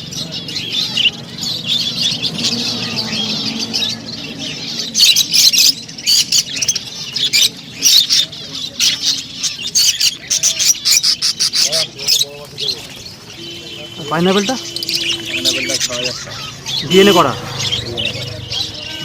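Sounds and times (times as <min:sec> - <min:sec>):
budgerigars chattering and chirping: 0:00.0 - 0:19.0.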